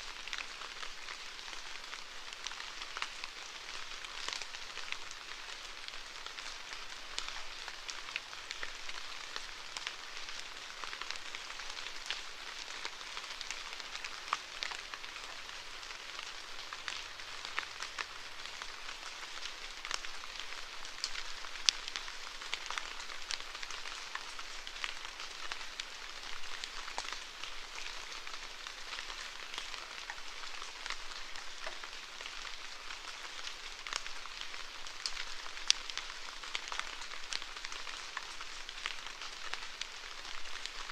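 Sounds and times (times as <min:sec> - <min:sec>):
raindrops pattering on a surface: 0:00.0 - 0:40.9
steady rain falling: 0:00.0 - 0:40.9.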